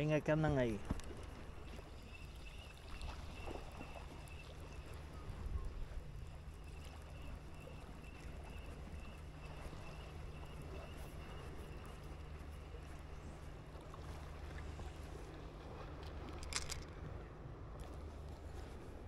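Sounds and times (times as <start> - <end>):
boat motor hum: 0.0 - 19.0
faint wind: 0.0 - 19.0
water noise: 0.0 - 19.0.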